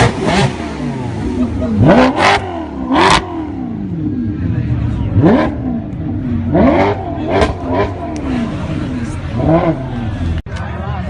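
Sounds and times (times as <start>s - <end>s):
sports car engine revving: 0.0s - 10.4s.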